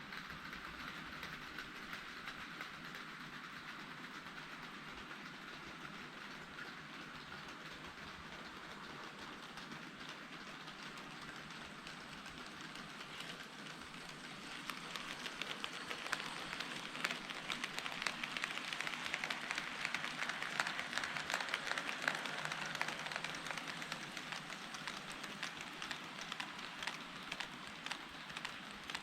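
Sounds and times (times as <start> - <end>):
model train rattling past: 0.0 - 29.0.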